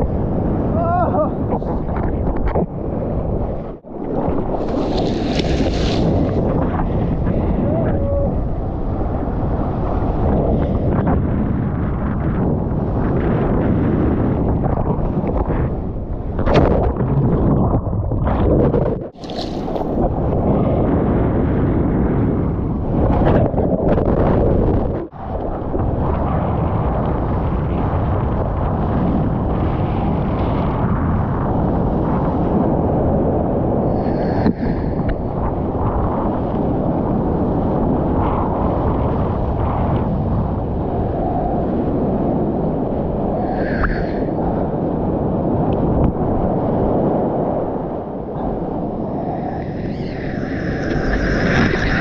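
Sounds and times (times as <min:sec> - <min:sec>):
rough storm surf: 0:00.0 - 0:52.0
wind buffeting microphone: 0:00.0 - 0:52.0.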